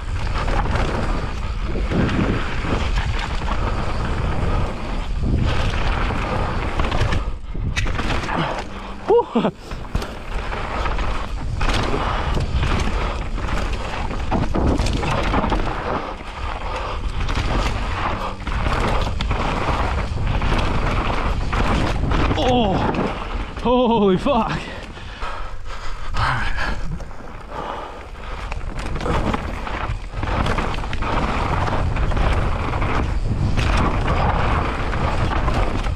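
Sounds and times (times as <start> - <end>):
bike rattling over rough ground: 0.0 - 35.9
bike tyres and wind rushing: 0.0 - 35.9.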